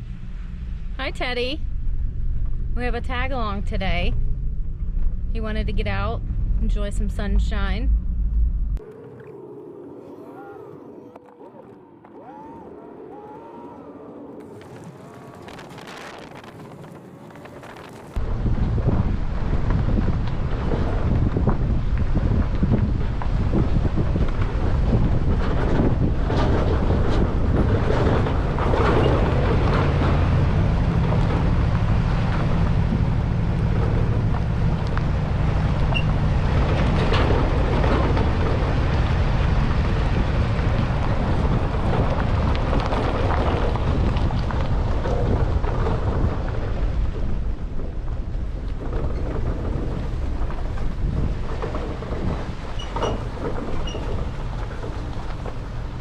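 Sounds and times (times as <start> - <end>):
vehicle engine rumbling: 0.0 - 56.0
wind buffeting microphone: 0.0 - 56.0.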